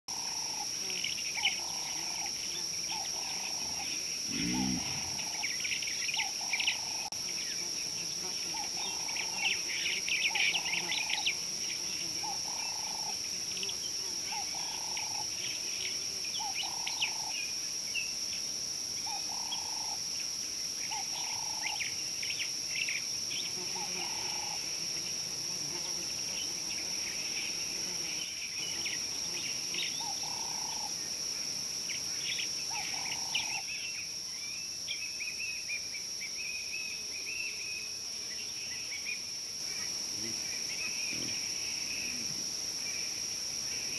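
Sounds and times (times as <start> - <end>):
insect drone: 0.1 - 43.9.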